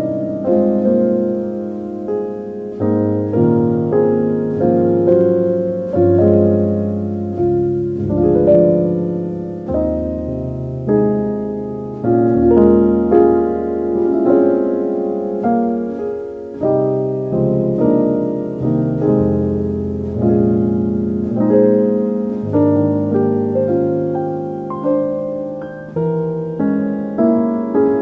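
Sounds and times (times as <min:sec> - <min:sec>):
slow gentle piano: 0:00.0 - 0:28.0.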